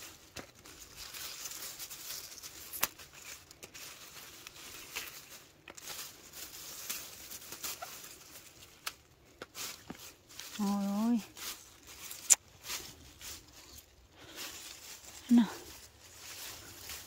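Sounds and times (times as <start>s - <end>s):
vines and leaves rustling: 0.0s - 17.0s.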